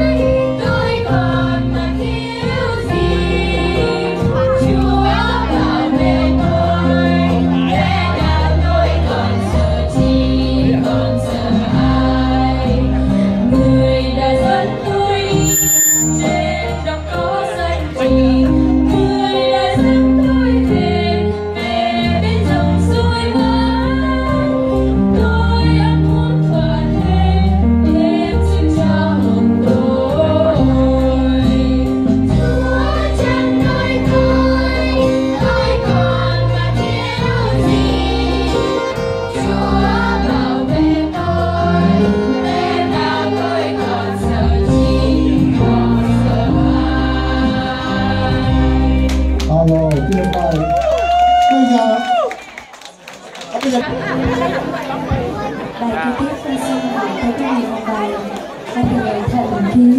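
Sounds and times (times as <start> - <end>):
children's choir singing a hymn: 0.0 - 15.4, 16.2 - 49.4
instrumental accompaniment with bass: 0.0 - 52.2.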